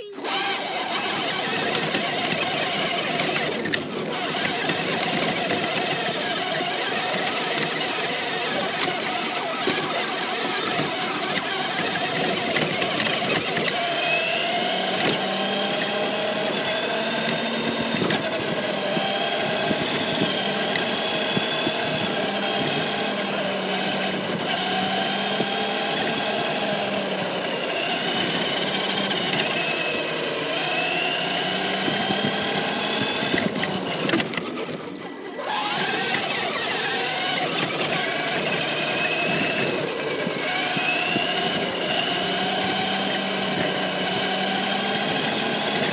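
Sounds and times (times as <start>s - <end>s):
toy car motor whining: 0.0s - 45.9s
wheel and wind noise: 0.0s - 45.9s.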